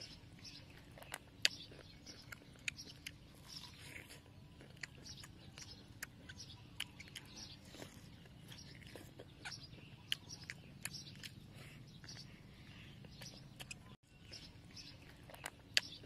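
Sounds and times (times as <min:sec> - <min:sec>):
chewing and crunching food: 0:00.0 - 0:16.0
mouth clicks and crackles: 0:00.0 - 0:16.0.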